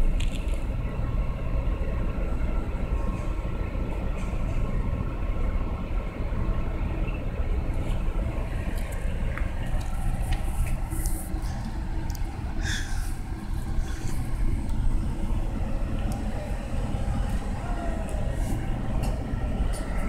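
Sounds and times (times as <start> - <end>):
locomotive rumbling and humming: 0.0 - 20.0.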